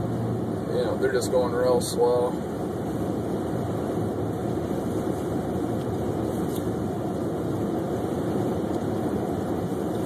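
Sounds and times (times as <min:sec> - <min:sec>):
road and engine noise in car cabin: 0:00.0 - 0:10.0.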